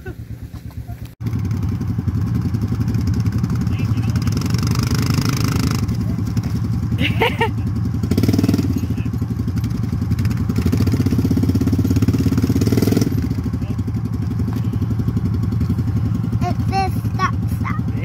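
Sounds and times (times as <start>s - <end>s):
atv engine revving in mud: 0.0s - 18.0s.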